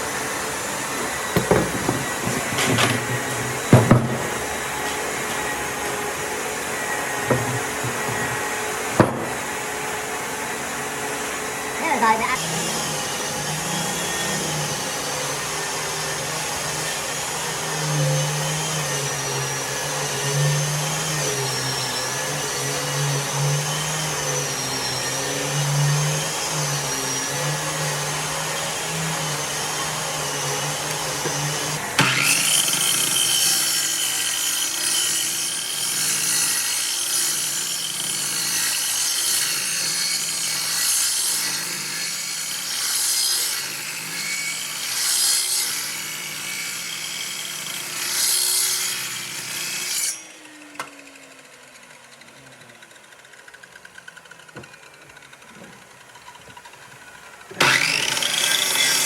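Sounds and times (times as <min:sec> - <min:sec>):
power tool whining on wood: 0:00.0 - 0:59.0.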